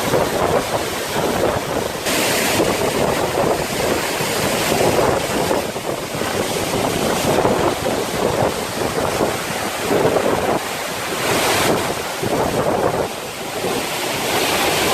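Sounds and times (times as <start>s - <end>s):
waterfall roaring: 0.0s - 14.9s
wind buffeting microphone: 0.0s - 14.9s.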